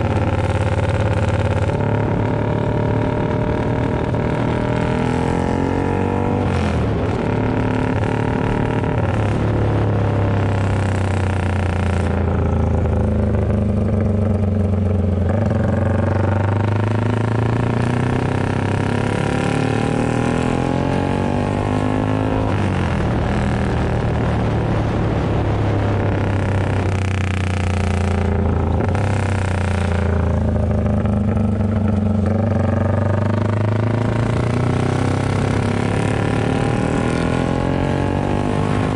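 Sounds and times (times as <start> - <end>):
motorcycle engine with loud exhaust: 0.0 - 38.9.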